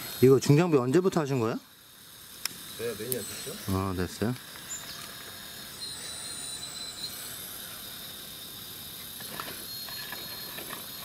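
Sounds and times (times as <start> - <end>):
hydraulic pump whine and hiss: 0.0 - 11.0.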